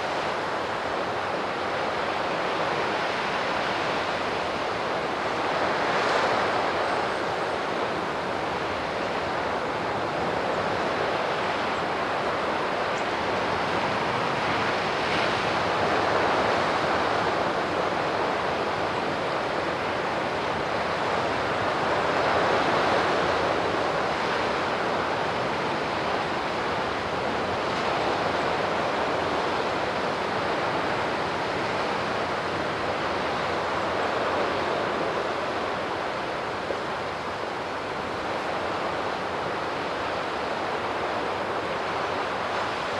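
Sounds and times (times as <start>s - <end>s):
sea surf washing on shore: 0.0s - 42.9s.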